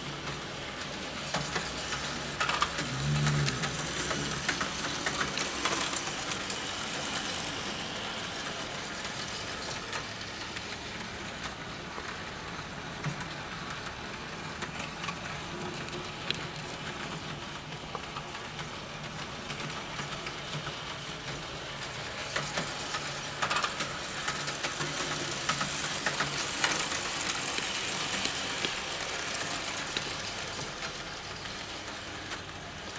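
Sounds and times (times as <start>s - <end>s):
model train motor hum: 0.0s - 12.8s, 16.1s - 32.9s
wheels clicking over rails: 0.0s - 32.9s.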